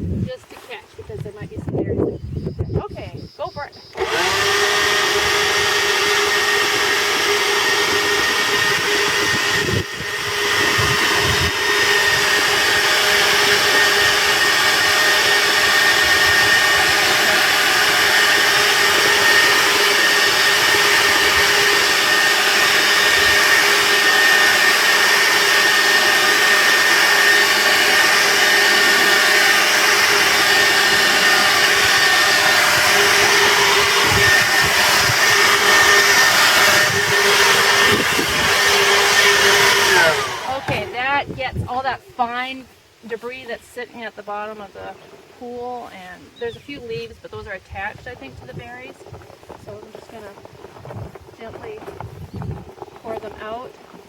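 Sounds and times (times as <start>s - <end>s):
leaf blower running: 3.5s - 54.0s.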